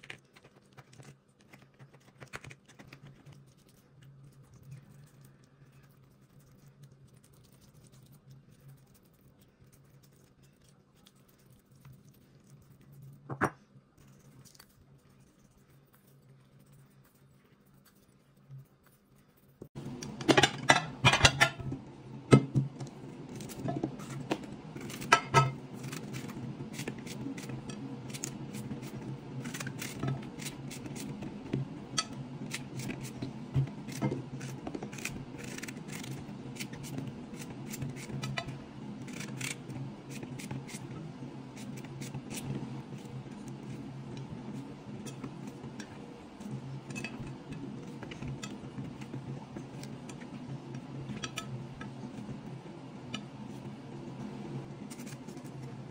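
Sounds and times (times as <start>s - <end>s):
steady low hum: 2.8s - 55.9s.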